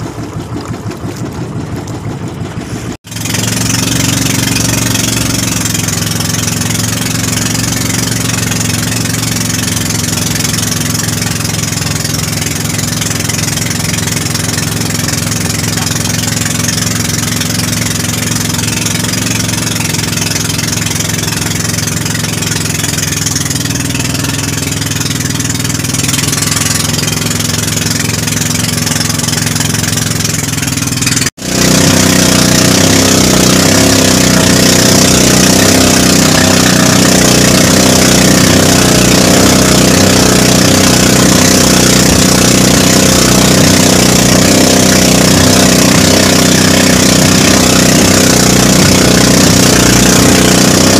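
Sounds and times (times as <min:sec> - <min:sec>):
boat engine running: 0:00.0 - 0:50.9
rushing water: 0:00.0 - 0:50.9
wind: 0:00.0 - 0:50.9.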